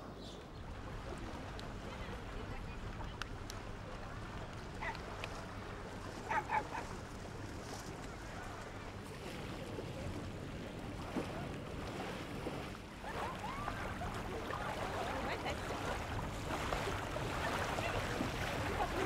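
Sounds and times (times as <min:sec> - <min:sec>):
wind: 0:00.0 - 0:19.0
water washing: 0:00.6 - 0:19.0.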